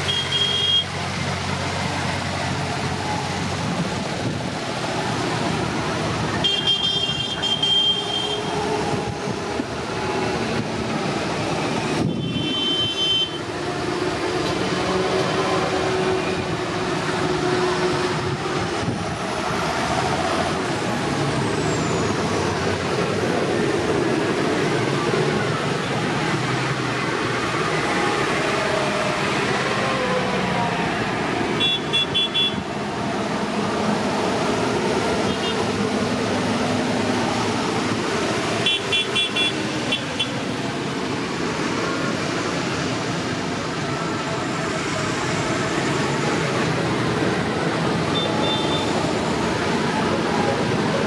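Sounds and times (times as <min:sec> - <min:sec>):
tractor diesel engines running: 0:00.0 - 0:51.0.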